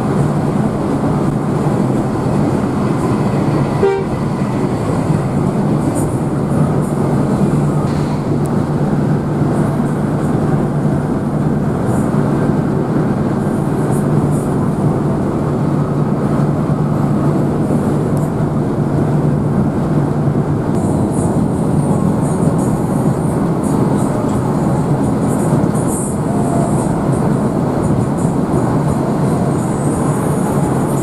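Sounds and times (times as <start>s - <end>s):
bus engine and road drone: 0.0s - 31.0s.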